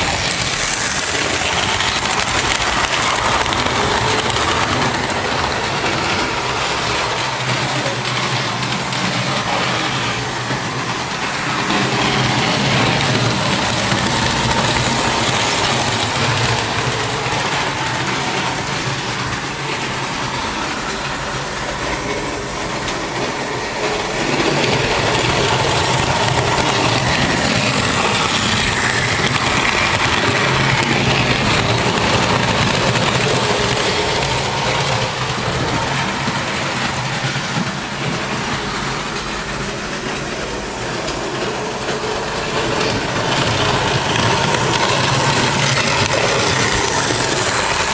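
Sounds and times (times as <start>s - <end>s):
model trains whirring on track: 0.0s - 47.9s.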